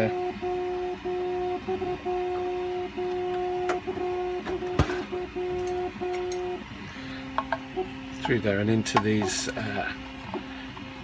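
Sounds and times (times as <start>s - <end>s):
printer stepper motors whining: 0.0s - 11.0s.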